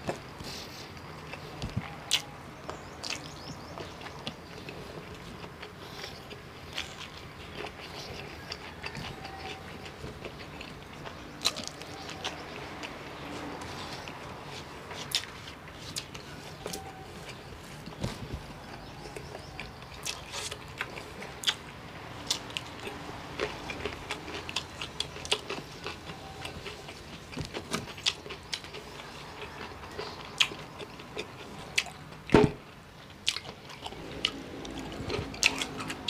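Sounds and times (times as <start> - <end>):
person chewing and eating: 0.0 - 32.3, 33.0 - 36.0.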